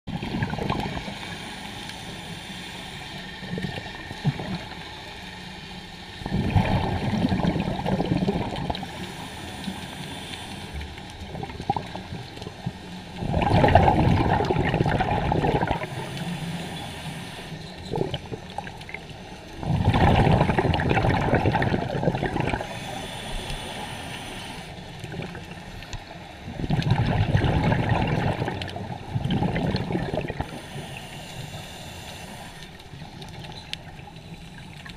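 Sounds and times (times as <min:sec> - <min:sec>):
scuba bubbles exhaled: 0:00.1 - 0:01.6, 0:03.4 - 0:04.8, 0:06.2 - 0:19.0, 0:19.6 - 0:25.6, 0:26.4 - 0:34.0
low underwater hiss: 0:00.1 - 0:34.9.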